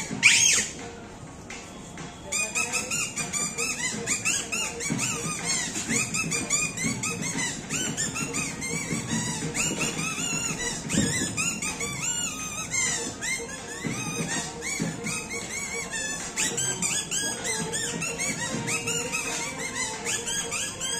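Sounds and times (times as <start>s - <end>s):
reed whistle squeaks: 0.0s - 0.8s, 2.3s - 20.9s.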